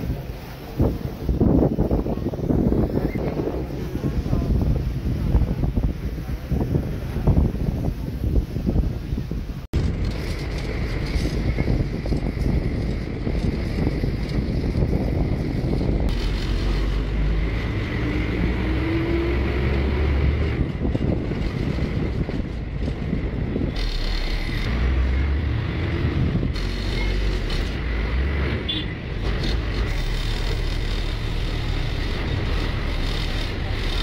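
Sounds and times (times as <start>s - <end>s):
vehicle engine and road noise: 0.0s - 34.0s
wind rumble on microphone: 0.0s - 34.0s.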